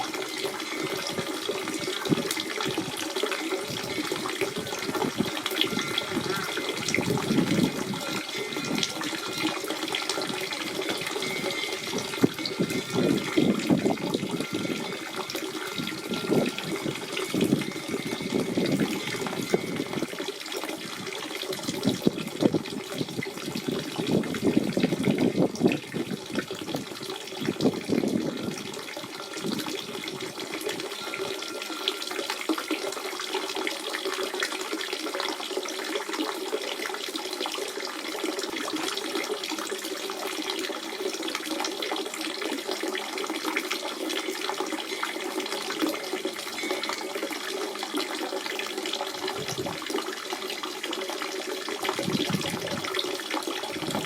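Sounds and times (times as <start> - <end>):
spring water running and splashing: 0.0 - 54.0.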